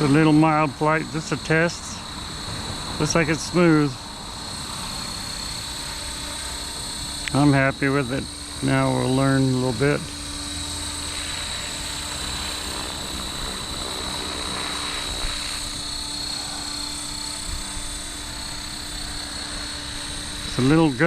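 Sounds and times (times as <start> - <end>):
rc helicopter rotor whine: 0.0 - 21.0.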